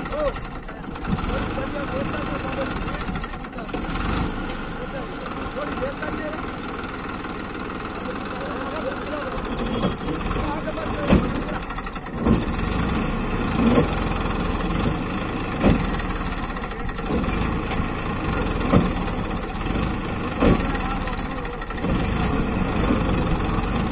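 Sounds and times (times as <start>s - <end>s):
tractor engine working under load: 0.0s - 23.9s.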